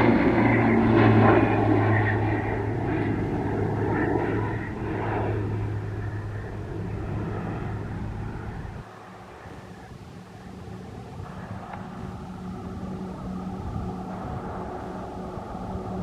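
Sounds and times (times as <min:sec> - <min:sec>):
propeller planes flying past: 0:00.0 - 0:16.0.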